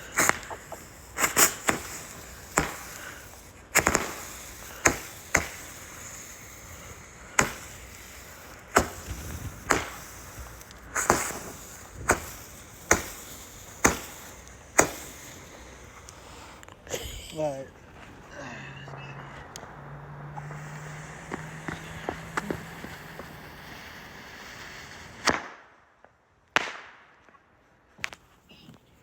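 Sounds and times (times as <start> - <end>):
fireworks exploding: 0.0 - 27.3.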